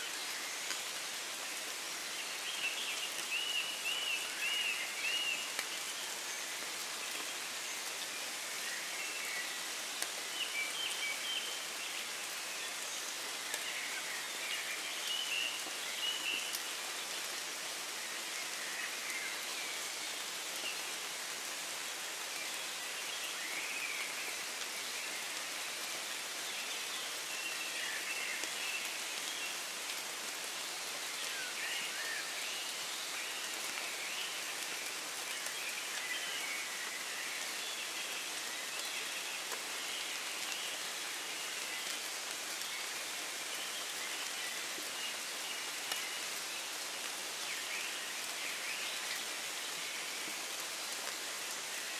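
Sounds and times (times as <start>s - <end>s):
rain pattering on leaves: 0.0s - 51.9s.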